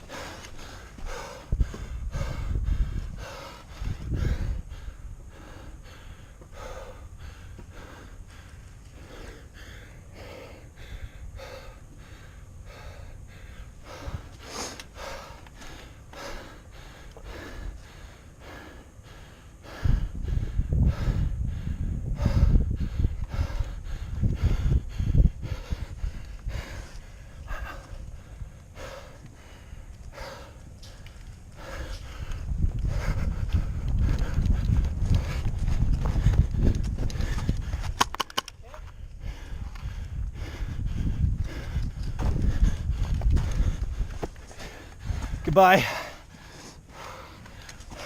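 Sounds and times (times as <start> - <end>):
person breathing hard: 0.0 - 48.0
wind noise on microphone: 0.0 - 48.0.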